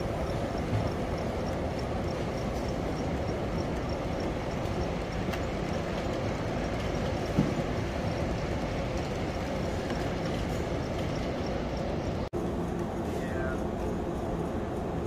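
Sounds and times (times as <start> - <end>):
light regular ticking: 0.0 - 12.3
model train rolling on track: 0.0 - 15.0.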